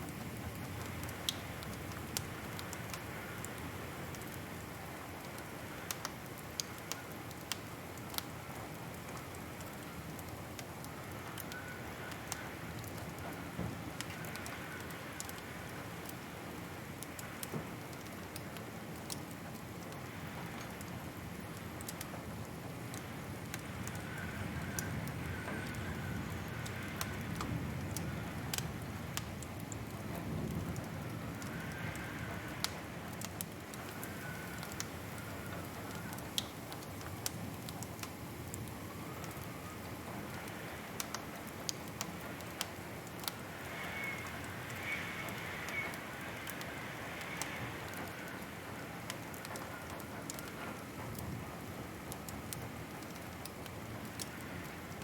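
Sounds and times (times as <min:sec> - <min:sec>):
low rush of flames: 0:00.0 - 0:55.0
wood fire crackling: 0:00.0 - 0:55.0.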